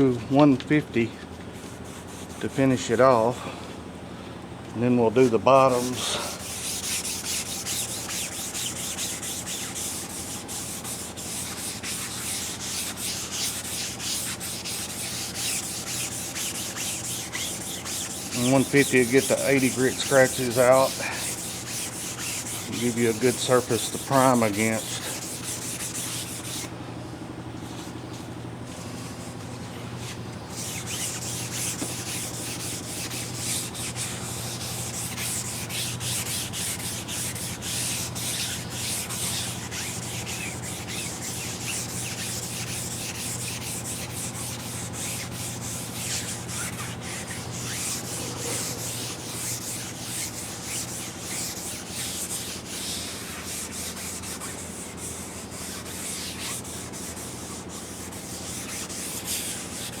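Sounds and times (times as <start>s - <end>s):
sandpaper rubbing on metal: 1.6s - 2.9s, 5.2s - 26.7s, 28.7s - 60.0s.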